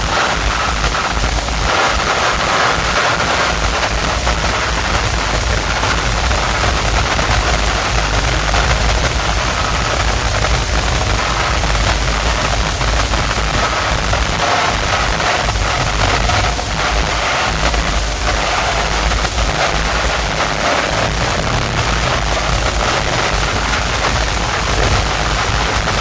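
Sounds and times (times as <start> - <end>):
distorted noise from speakers: 0.0 - 26.0
heavy low bass: 0.0 - 26.0.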